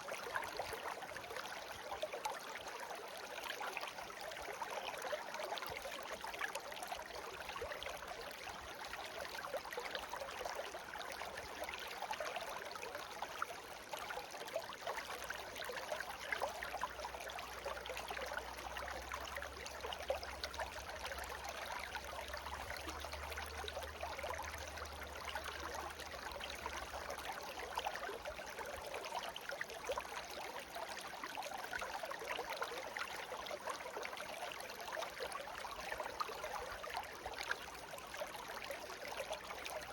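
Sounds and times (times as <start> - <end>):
brook babbling and trickling: 0.0 - 39.9.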